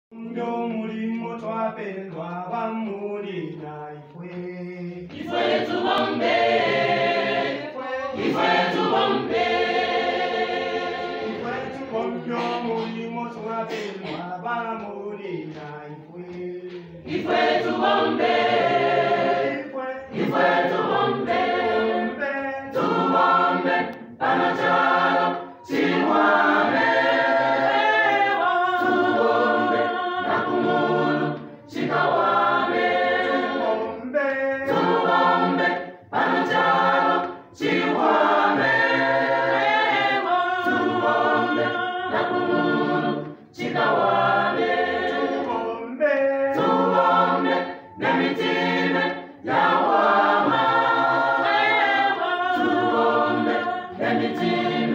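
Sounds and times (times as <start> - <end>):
choir singing a cappella: 0.1 - 54.9.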